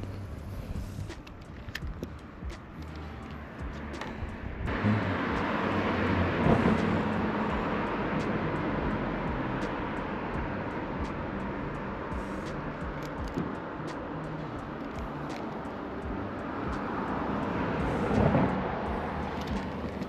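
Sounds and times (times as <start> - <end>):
passing motor engine: 0.0 - 20.0.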